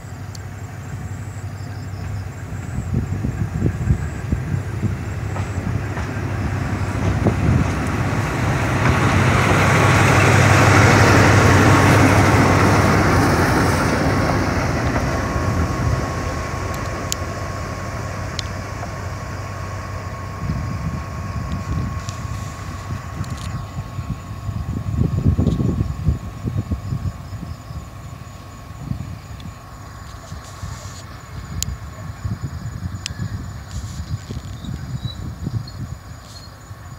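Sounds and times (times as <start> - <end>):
locomotive engine hum: 0.0 - 36.9
steady high whine: 0.0 - 36.9.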